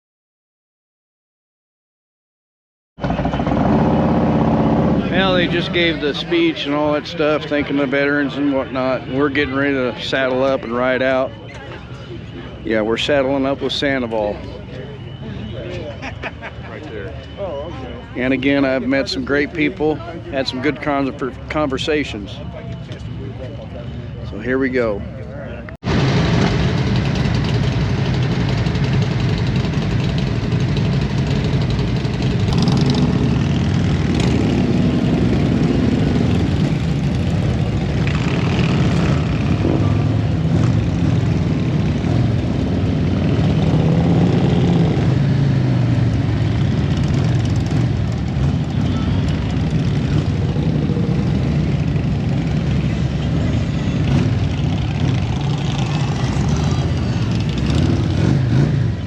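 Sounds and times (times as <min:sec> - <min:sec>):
motorcycle engines running: 0:03.0 - 0:59.0.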